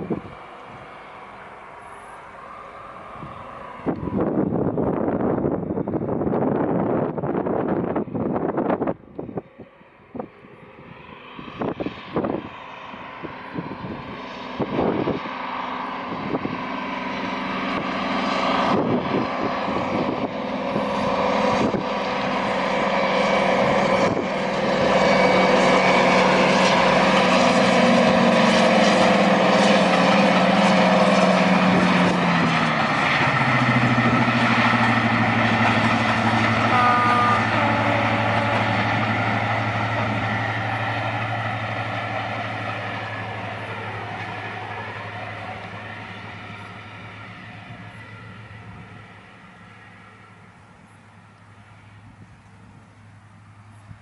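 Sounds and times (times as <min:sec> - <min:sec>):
wind buffeting microphone: 0:00.0 - 0:49.4
diesel locomotive engines working: 0:00.0 - 0:54.0.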